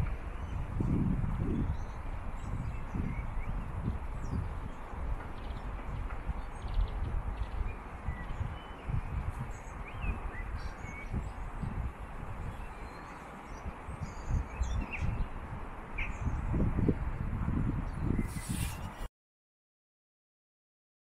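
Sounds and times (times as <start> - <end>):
wind rumble on microphone: 0.0 - 19.1.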